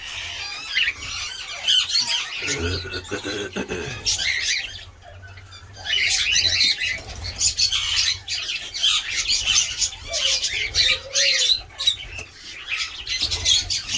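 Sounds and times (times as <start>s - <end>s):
cockatiels chattering and squawking: 0.0s - 13.9s.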